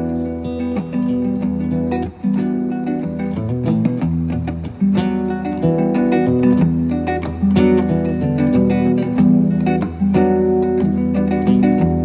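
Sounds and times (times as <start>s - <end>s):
acoustic guitar playing: 0.0s - 12.0s
electric guitar playing: 0.0s - 12.0s.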